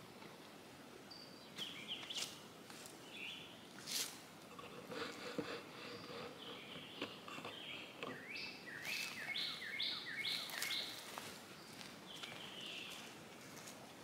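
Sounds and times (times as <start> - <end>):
songbird singing: 1.0 - 3.7, 4.6 - 13.3.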